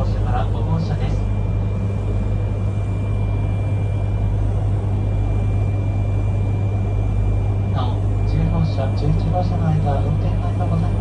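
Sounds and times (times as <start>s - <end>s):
train rumbling inside passenger car: 0.0s - 1.8s, 2.4s - 11.0s.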